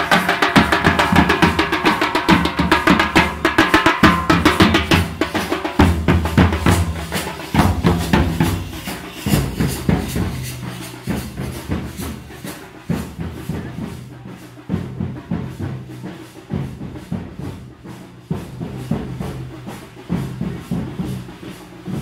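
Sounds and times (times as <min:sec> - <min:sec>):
deep booming drum strokes: 0:00.0 - 0:22.0
street drum band: 0:00.0 - 0:22.0.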